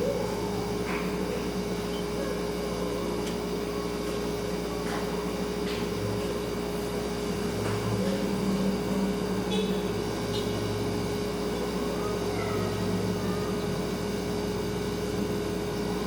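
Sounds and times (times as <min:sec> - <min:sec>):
refrigerator humming: 0:00.0 - 0:16.0.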